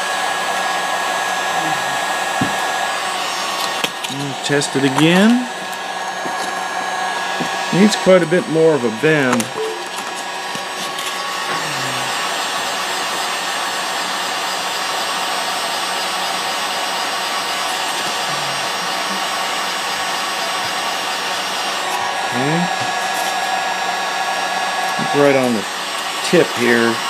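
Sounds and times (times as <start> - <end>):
heat gun blowing air: 0.0 - 27.0.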